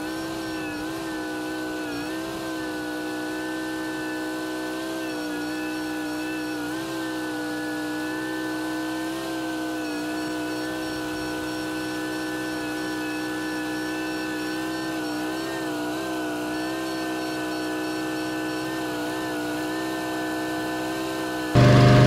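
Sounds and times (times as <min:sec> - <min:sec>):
small engine running at high revs: 0:00.0 - 0:22.0.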